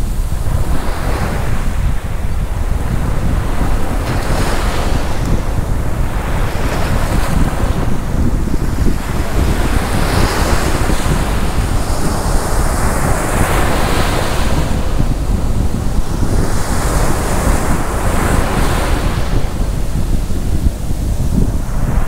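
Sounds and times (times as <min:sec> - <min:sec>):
surf washing onto beach: 0:00.0 - 0:22.0
wind rumbling on microphone: 0:00.0 - 0:22.0.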